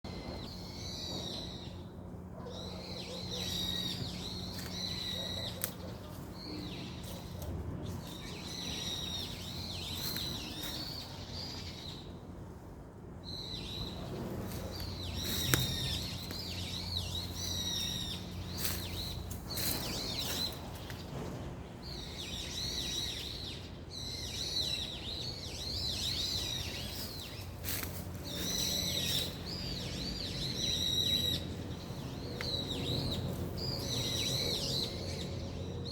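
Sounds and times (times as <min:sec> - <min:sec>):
small birds chirping: 0:00.1 - 0:12.2, 0:13.3 - 0:35.9
steady low hum: 0:00.1 - 0:35.9.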